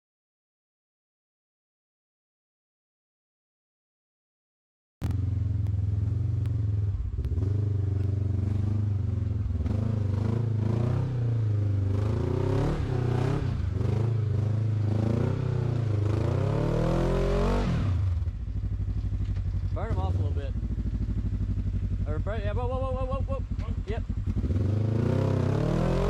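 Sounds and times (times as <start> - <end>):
engine revving: 5.0 - 26.0.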